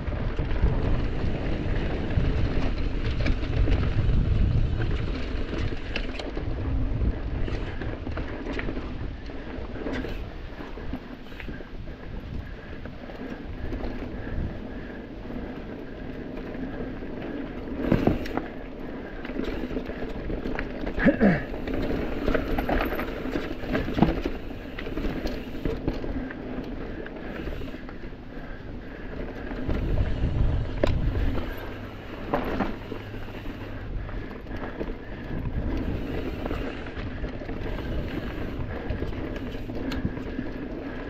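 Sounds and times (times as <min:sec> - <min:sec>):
bike tyre and frame rattle: 0:00.0 - 0:41.0
wind rumble on microphone: 0:00.0 - 0:41.0.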